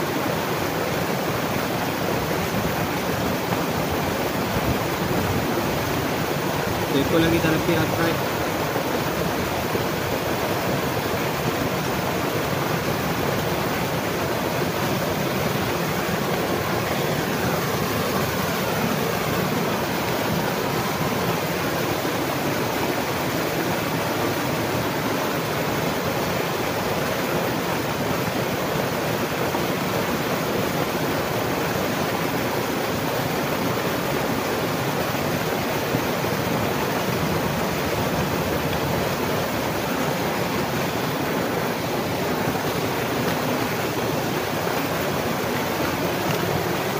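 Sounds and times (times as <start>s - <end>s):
flowing water rushing: 0.0s - 46.9s.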